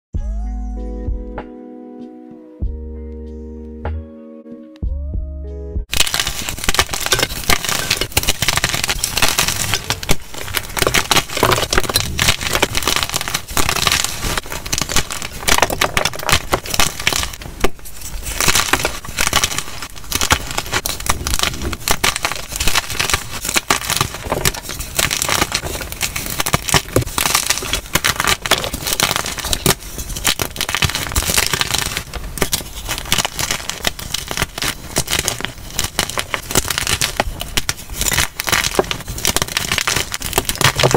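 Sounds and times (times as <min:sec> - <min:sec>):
chalk blocks crunching and snapping: 0:05.9 - 0:40.9.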